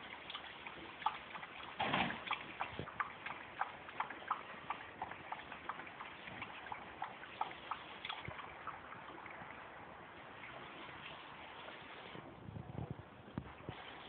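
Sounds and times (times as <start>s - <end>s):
dog lapping water: 0.0s - 12.2s.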